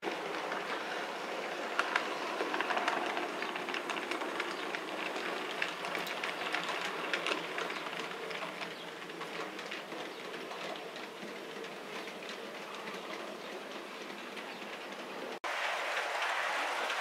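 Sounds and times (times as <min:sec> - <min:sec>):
model train running on track: 0:00.0 - 0:17.0
wheels clicking over rail joints: 0:00.0 - 0:17.0.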